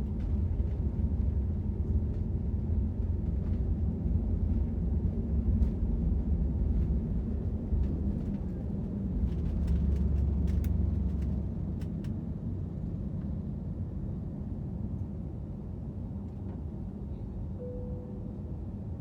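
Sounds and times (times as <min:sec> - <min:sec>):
jet airliner cabin rumble: 0:00.0 - 0:19.0.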